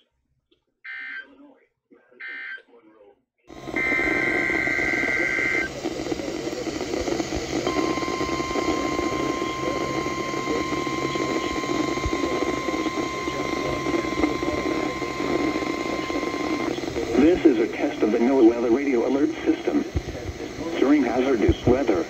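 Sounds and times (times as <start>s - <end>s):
radio static: 3.5s - 22.0s.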